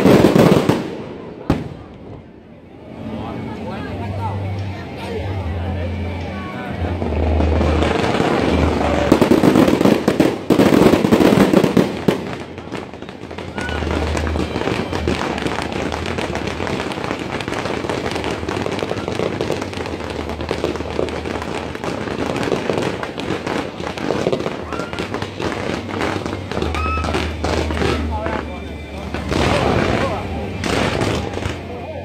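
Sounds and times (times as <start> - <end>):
fireworks bursting: 0.0 - 2.3, 6.0 - 32.0
fireworks crackling: 0.0 - 32.0.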